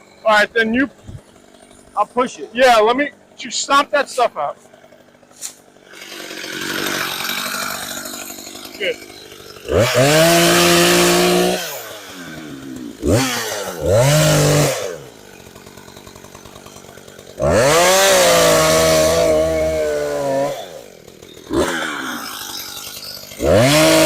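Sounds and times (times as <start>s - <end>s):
chainsaw revving and idling: 0.0s - 24.0s.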